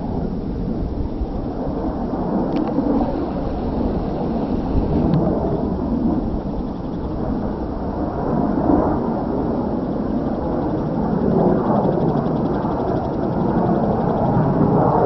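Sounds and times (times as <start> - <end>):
distant jet rumble: 0.0 - 15.0.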